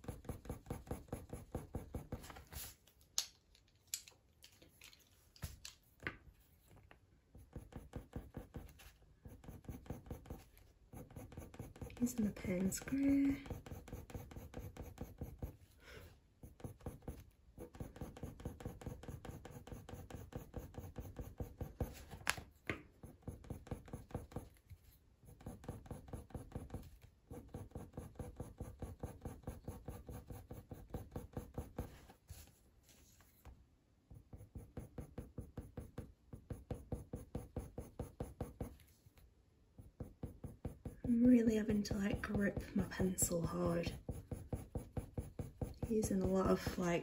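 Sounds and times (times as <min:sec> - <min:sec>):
pencil scratching on paper: 0:00.0 - 0:02.8, 0:07.3 - 0:32.5, 0:34.1 - 0:39.0, 0:39.8 - 0:47.0.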